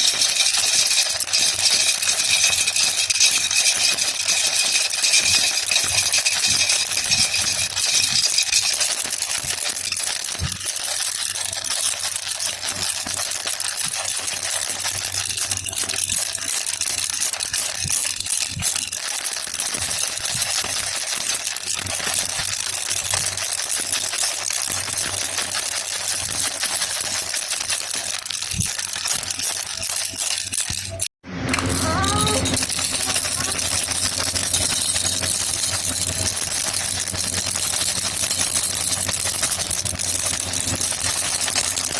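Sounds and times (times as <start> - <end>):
baby rattle shaken: 0.0 - 41.9.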